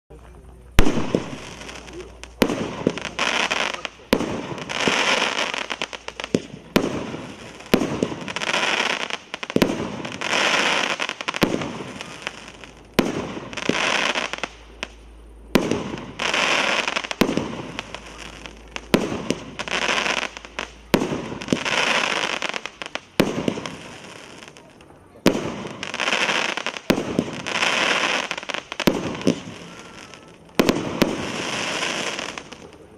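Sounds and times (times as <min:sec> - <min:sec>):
firework bangs: 0:00.1 - 0:32.9
firework crackling: 0:00.1 - 0:32.9.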